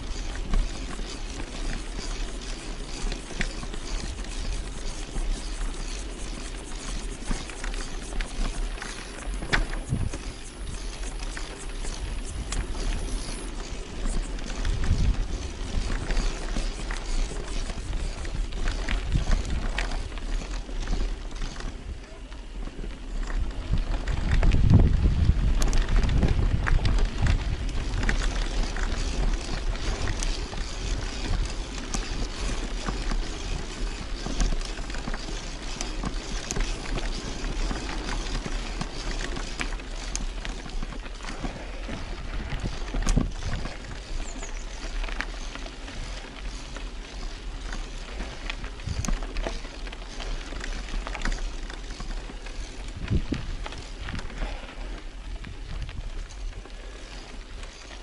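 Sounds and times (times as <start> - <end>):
bicycle knocks and rattles: 0.0 - 54.7
bicycle rushing over rough ground: 0.0 - 58.0.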